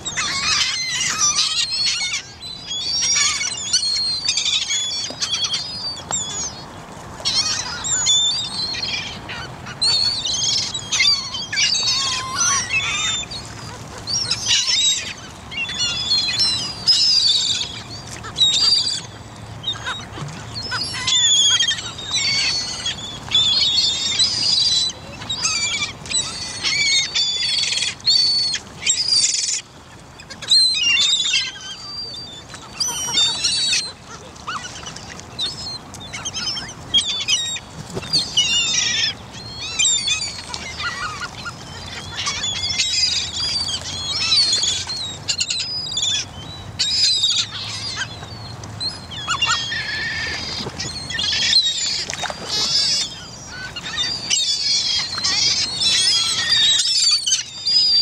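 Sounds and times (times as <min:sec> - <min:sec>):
flock of birds calling: 0:00.0 - 0:58.0.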